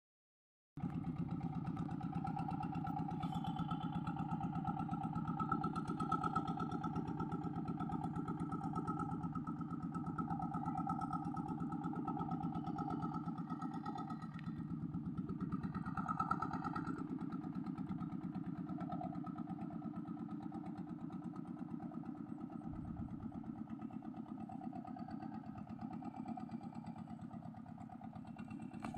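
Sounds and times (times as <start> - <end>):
boat engine running: 0.8 - 28.9.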